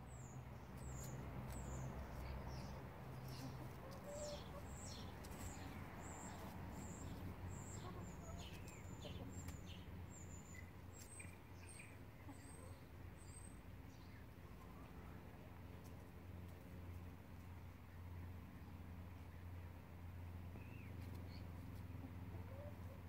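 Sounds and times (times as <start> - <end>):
songbird chirping: 0.0 - 16.0, 20.5 - 23.0.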